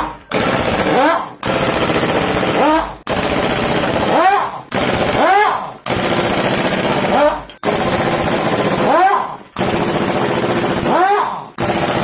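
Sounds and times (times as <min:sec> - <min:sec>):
powered tool rattling in bursts: 0:00.0 - 0:12.0.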